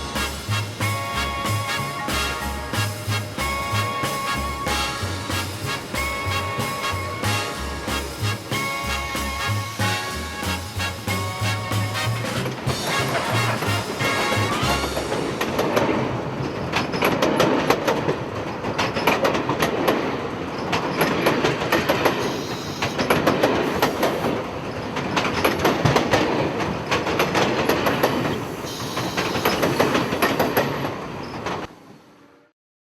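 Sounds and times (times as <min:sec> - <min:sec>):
train wheels clattering over rail joints: 0:00.0 - 0:31.8.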